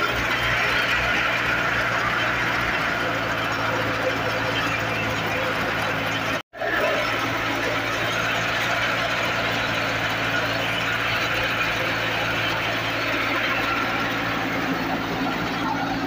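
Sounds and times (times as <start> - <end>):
threshing machine engine hum: 0.0 - 16.0.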